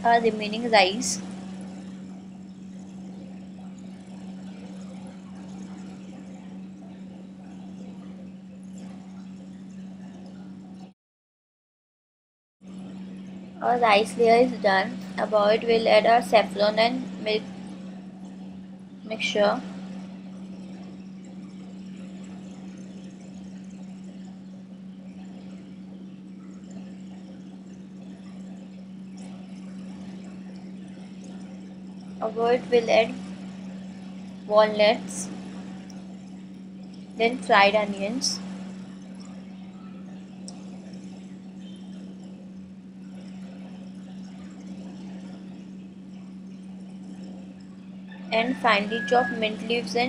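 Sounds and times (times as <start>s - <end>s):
steady low hum: 0.0s - 10.9s, 12.6s - 50.0s.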